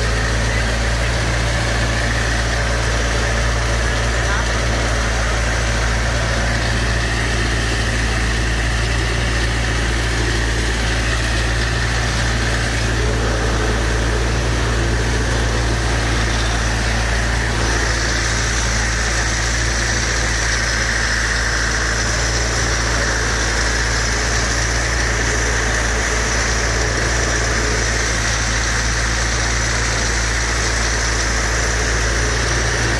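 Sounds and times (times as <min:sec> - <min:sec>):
water pump engine running: 0:00.0 - 0:32.9
water rushing from a pipe: 0:00.0 - 0:32.9.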